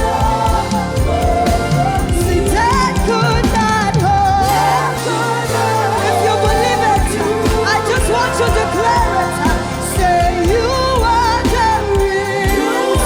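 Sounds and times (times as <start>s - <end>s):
band with drums and bass: 0.0s - 13.0s
person singing: 0.0s - 13.0s.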